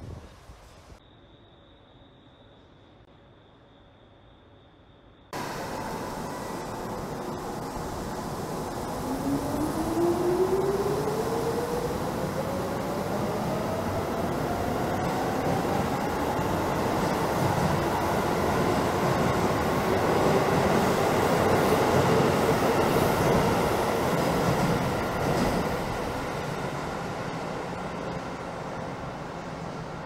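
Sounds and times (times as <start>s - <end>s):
wheels rumbling on rail: 5.4s - 30.0s.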